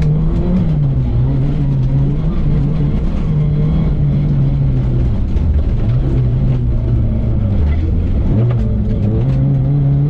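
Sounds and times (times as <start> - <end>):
low rumble from car: 0.0 - 10.0
rally car engine revving: 0.0 - 10.0.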